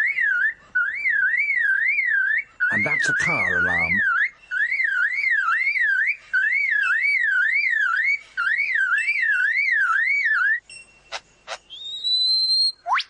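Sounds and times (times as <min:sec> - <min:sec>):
lyrebird mimicking a car alarm: 0:00.0 - 0:12.2.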